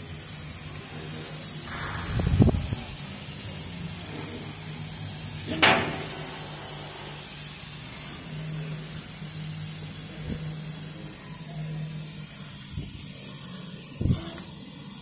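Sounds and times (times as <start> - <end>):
laser cutter humming and hissing: 0.0 - 15.0.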